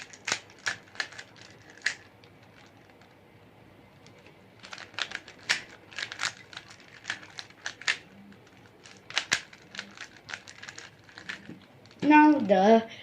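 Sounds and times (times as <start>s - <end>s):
puzzle cube clicking: 0.0s - 3.0s, 4.0s - 12.1s.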